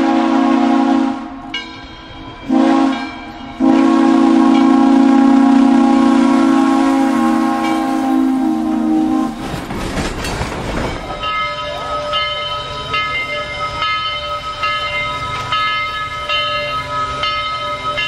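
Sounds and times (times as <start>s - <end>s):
locomotive rumble: 0.0s - 18.0s
steam train passing: 0.0s - 18.0s
locomotive bell ringing: 1.4s - 8.8s, 10.2s - 18.0s.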